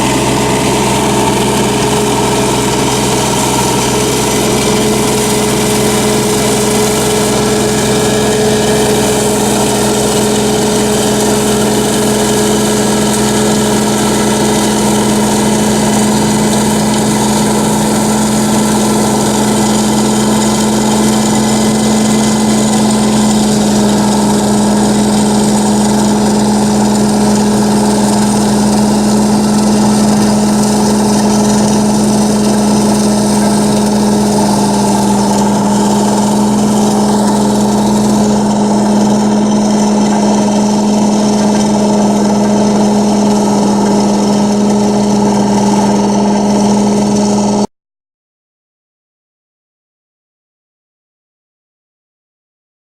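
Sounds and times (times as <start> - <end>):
tractor diesel engine running: 0.0 - 47.7.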